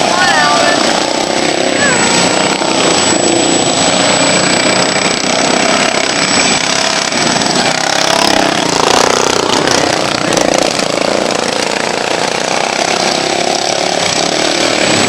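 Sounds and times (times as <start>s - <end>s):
lawn mower engines racing: 0.0s - 15.0s.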